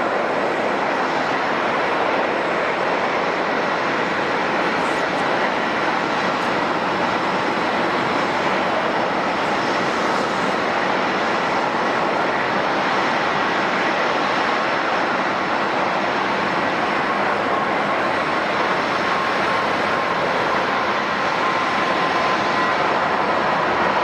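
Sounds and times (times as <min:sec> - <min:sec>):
faint high whine: 0:00.0 - 0:24.0
jet engines rushing: 0:00.0 - 0:24.0.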